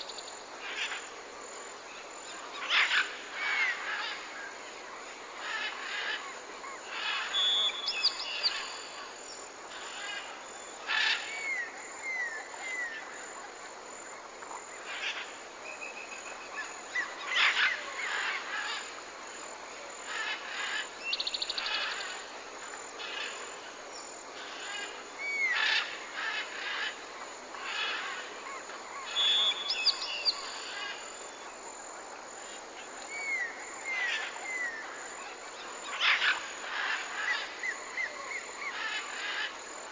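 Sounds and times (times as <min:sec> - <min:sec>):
forest hiss: 0:00.0 - 0:39.9.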